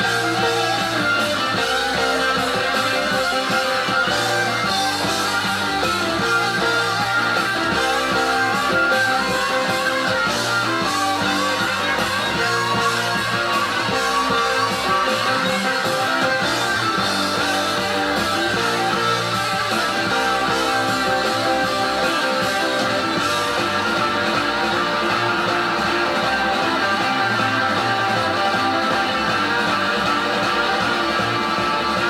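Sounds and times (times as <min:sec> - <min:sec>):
bass and drums: 0:00.0 - 0:32.0
electric guitar lead lines: 0:00.0 - 0:32.0.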